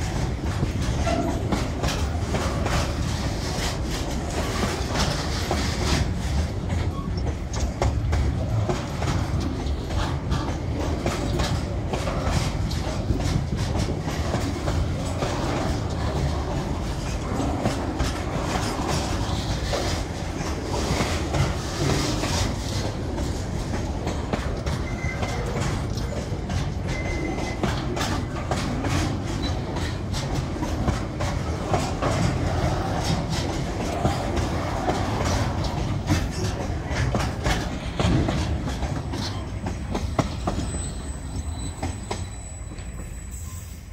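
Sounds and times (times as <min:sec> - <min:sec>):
wheels clicking over rail joints: 0:00.0 - 0:43.3
freight train rolling past: 0:00.0 - 0:43.9.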